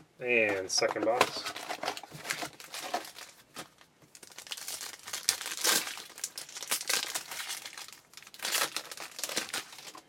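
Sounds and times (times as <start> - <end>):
card packaging tearing and crinkling: 1.0 - 10.0.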